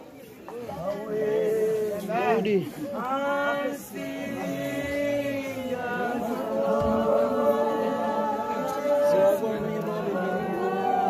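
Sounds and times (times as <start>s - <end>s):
congregation singing a cappella: 0.7s - 11.0s.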